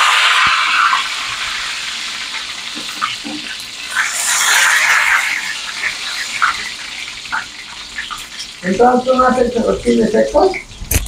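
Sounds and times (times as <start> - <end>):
food sizzling in hot oil: 0.0 - 10.8.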